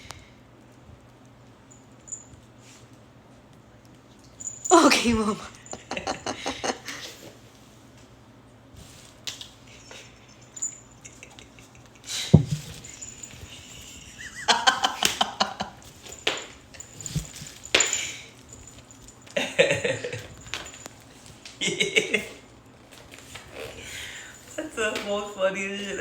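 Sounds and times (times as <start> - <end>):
cats scrambling and playing: 0.7 - 8.0, 8.7 - 26.0.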